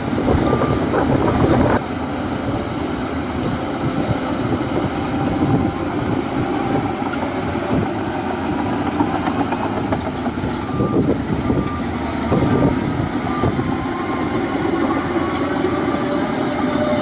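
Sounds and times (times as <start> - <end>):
diesel machinery rumbling: 0.0 - 17.0.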